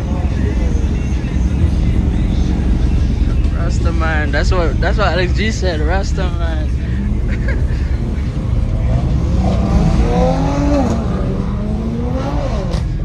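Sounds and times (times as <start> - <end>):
background voices: 0.0 - 13.0
car engines rumbling: 0.0 - 13.0.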